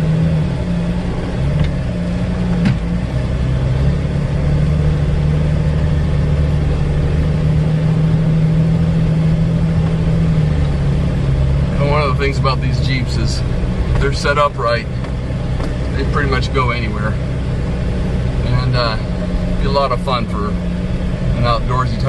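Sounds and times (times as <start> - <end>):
engine pulling steadily: 0.0 - 22.0.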